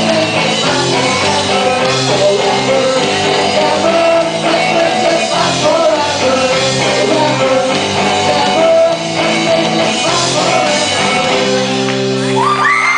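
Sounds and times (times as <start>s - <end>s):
person singing: 0.0s - 12.7s
rock band playing live: 0.0s - 12.9s.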